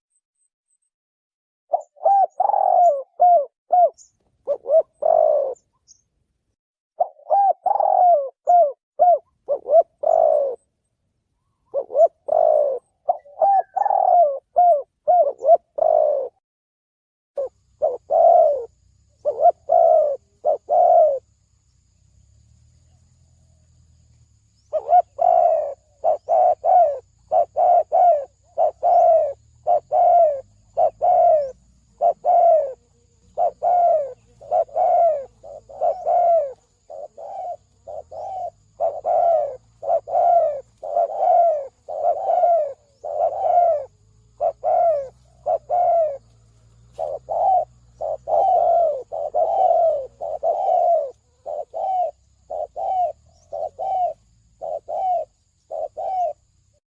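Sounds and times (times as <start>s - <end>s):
dove cooing: 1.7s - 5.8s, 7.0s - 10.7s, 11.6s - 16.4s, 17.4s - 21.3s, 24.6s - 56.5s.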